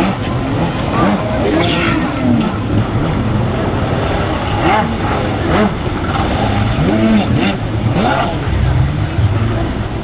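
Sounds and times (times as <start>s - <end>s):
jet ski engine revving: 0.0s - 10.0s.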